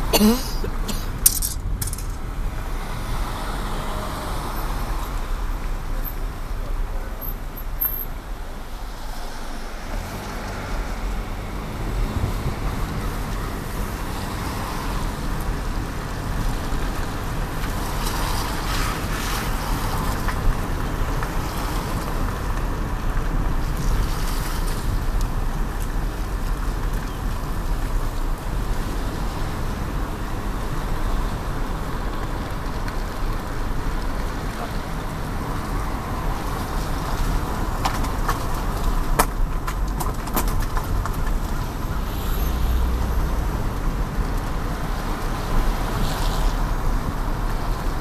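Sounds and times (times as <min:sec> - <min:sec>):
car road rumble: 0:00.0 - 0:48.0.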